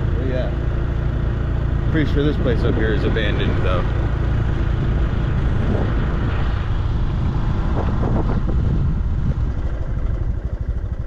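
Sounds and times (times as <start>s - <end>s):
motorbike engine running: 0.0s - 11.0s
wind rumbling on microphone: 1.9s - 11.0s.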